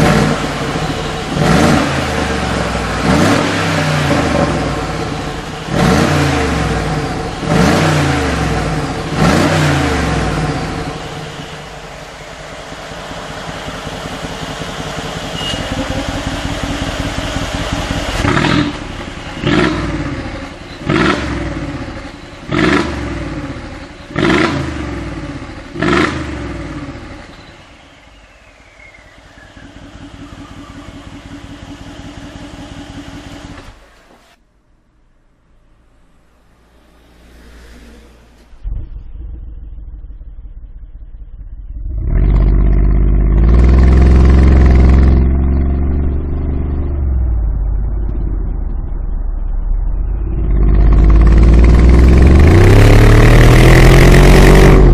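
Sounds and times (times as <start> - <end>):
car engine revving and idling: 0.0 - 34.2, 40.2 - 54.9.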